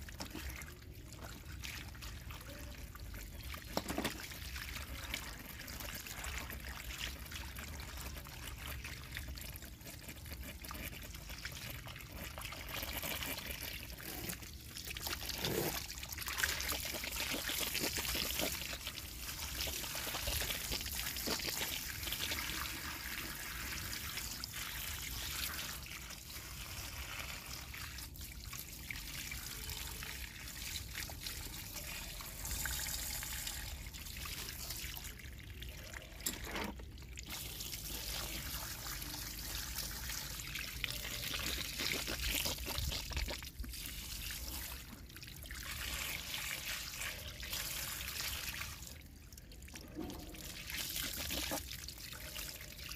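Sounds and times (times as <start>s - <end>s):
water from hose splashing: 0.0s - 52.9s.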